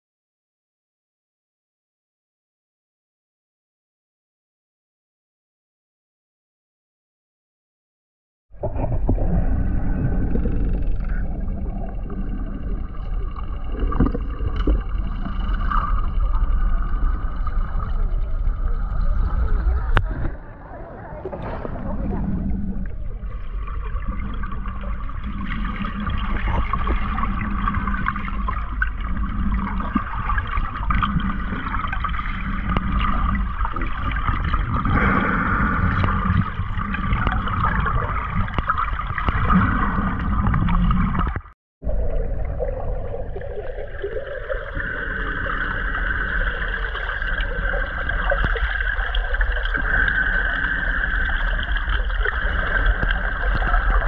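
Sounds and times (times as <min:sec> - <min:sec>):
muffled underwater water wash: 0:08.5 - 0:54.0.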